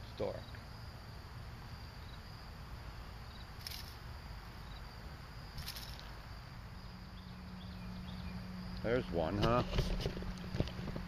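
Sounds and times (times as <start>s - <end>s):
crickets trilling: 0.0s - 11.0s
low outdoor rumble: 0.0s - 11.0s.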